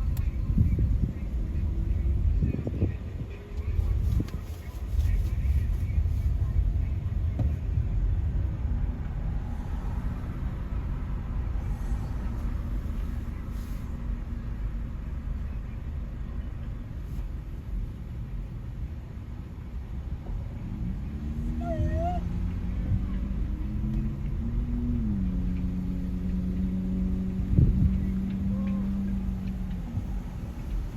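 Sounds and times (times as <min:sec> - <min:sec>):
faint engine hum: 0:00.0 - 0:30.9
road traffic rumble: 0:00.0 - 0:30.9.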